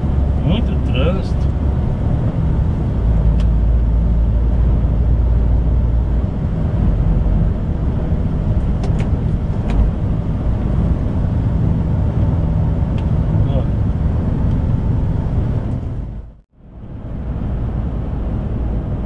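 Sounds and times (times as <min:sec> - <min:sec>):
lorry engine and tyres drone: 0:00.0 - 0:16.0.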